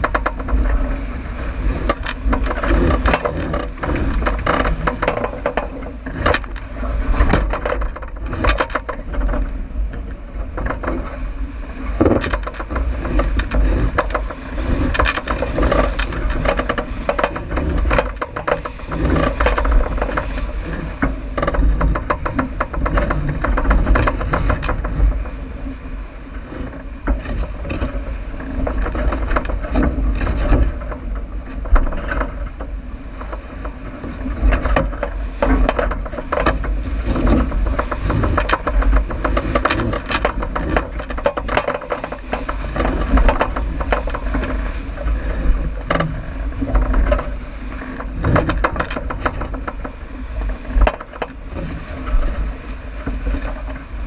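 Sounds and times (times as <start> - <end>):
rattles and knocks: 0.0 - 54.0
water rushing past hull: 0.0 - 54.0
wind buffeting microphone: 0.0 - 54.0.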